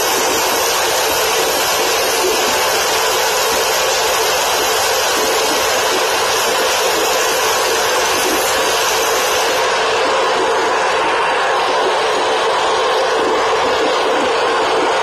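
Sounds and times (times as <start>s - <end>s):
gas burner hissing roar: 0.0s - 15.0s.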